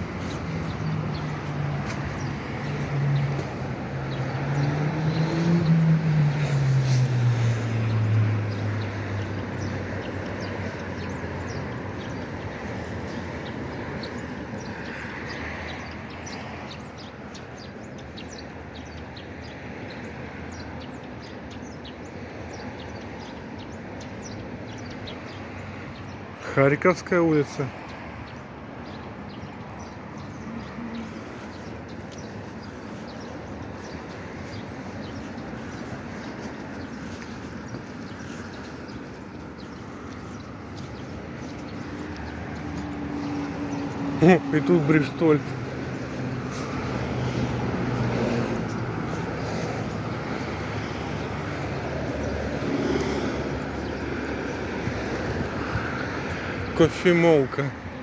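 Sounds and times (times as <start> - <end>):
cars driving past: 0.0 - 58.0.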